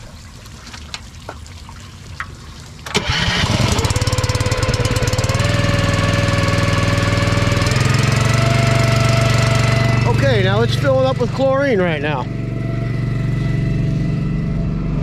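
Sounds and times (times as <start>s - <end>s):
small gasoline engine running: 2.9s - 15.0s.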